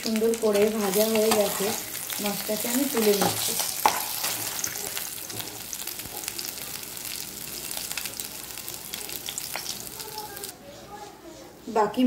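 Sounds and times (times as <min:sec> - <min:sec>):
hot oil sizzling: 0:00.0 - 0:10.6.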